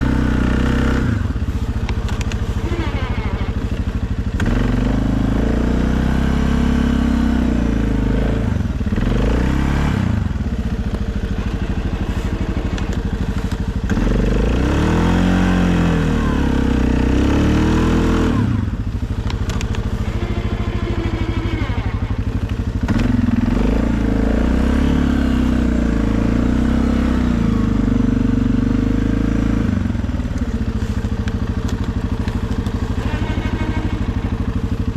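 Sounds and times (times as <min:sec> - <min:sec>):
quad bike engine revving: 0:00.0 - 0:34.9.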